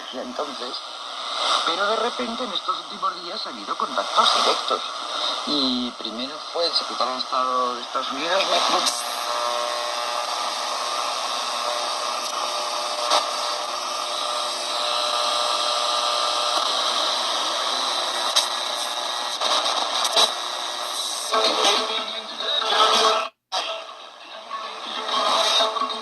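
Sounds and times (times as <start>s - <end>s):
sharp static crackles: 0.0s - 22.0s
radio static hiss: 0.0s - 26.0s.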